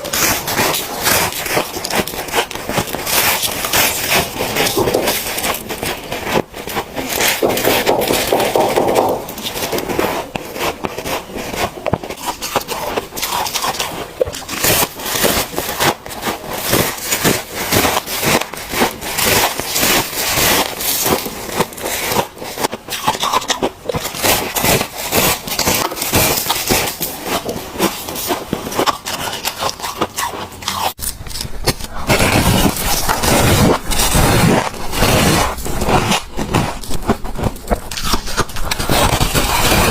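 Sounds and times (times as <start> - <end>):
frost being chewed: 0.0 - 39.9.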